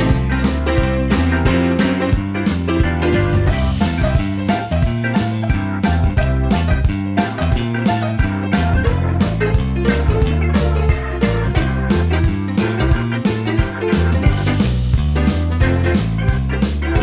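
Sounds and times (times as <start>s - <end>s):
rock blues music: 0.0s - 17.0s.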